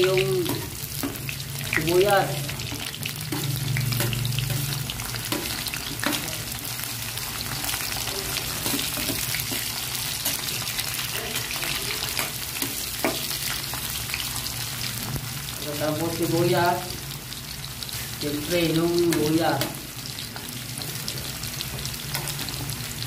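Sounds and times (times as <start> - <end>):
onion and garlic sizzling in oil: 0.0 - 23.0.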